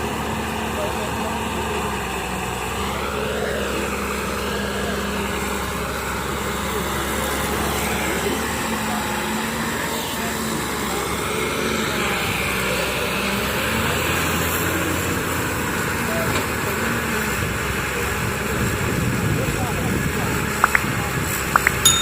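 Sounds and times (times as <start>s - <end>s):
diesel engine running: 0.0s - 21.5s.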